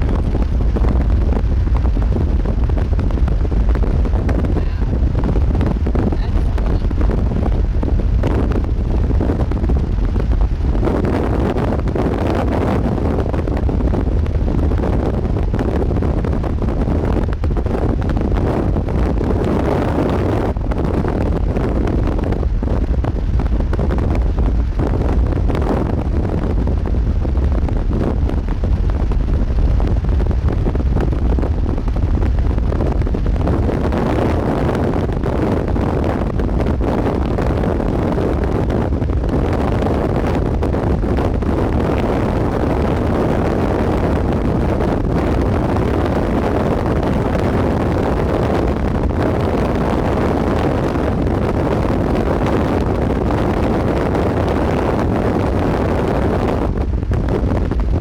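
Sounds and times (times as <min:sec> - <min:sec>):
road and wind noise: 0:00.0 - 0:58.0
vehicle driving at speed: 0:00.0 - 0:58.0.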